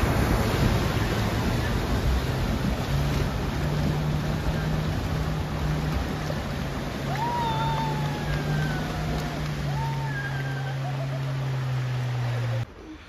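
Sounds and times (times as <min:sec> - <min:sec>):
car engine under load: 0:00.0 - 0:12.7
water rushing: 0:00.0 - 0:13.0.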